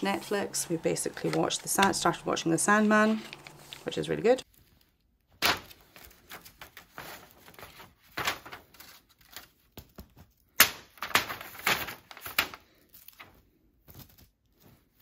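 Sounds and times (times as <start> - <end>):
paper map rustling and crinkling: 0.0 - 15.0.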